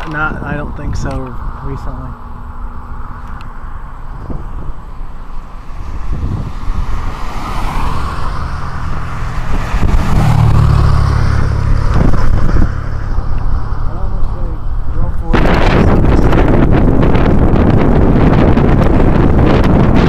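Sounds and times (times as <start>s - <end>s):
car road and engine noise: 0.0s - 20.0s
deep rumble: 0.0s - 20.0s.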